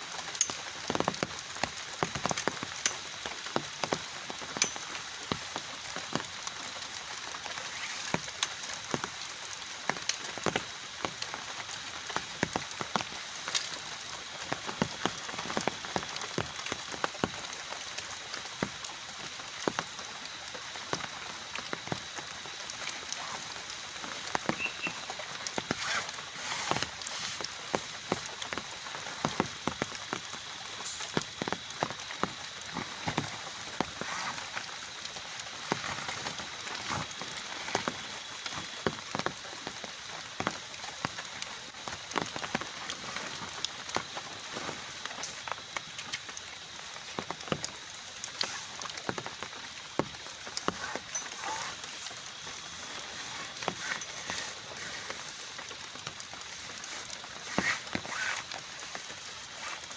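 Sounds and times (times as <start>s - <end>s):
heavy raindrops tapping on surface: 0.0s - 59.9s.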